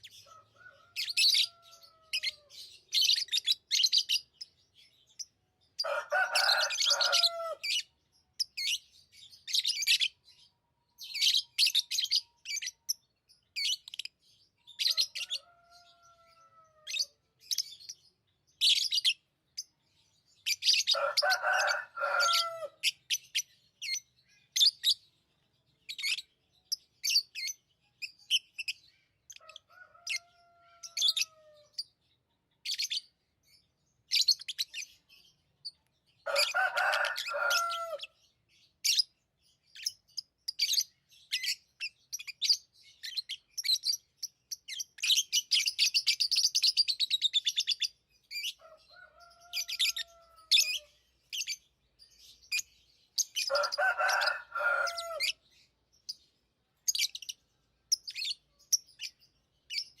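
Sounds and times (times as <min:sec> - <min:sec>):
lovebirds chirping: 0:00.0 - 1:00.0.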